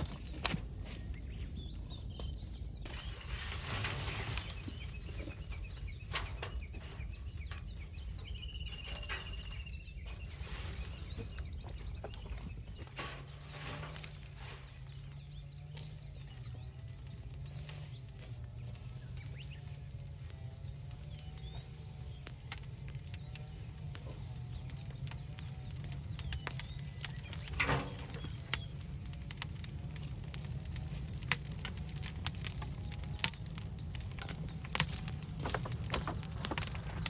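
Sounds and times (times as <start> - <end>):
sharp crackles and snaps: 0.0 - 37.0
small birds chirping: 0.0 - 37.0.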